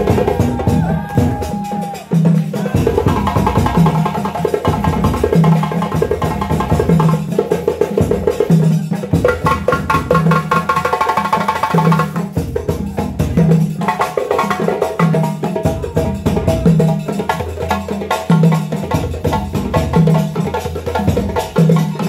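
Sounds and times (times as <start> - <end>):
fast djembe strokes: 0.0 - 22.0.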